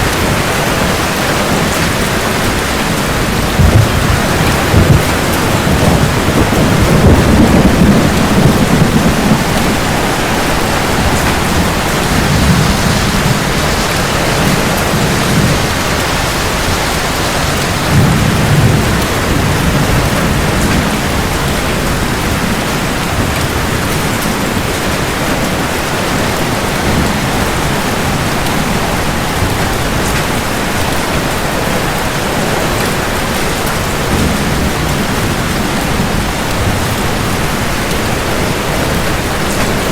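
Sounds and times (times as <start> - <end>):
rain falling: 0.0 - 39.9
thunder rumbling: 0.0 - 39.9.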